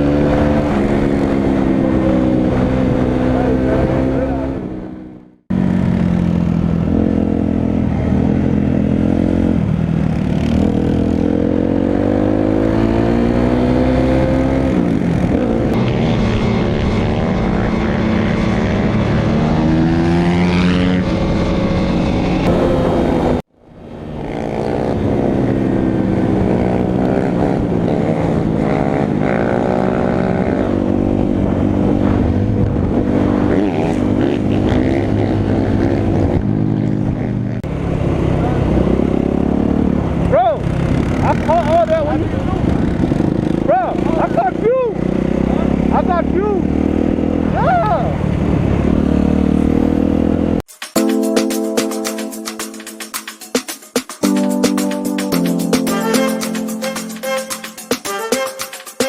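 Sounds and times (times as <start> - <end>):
dirt bike engines revving: 0.0 - 50.6.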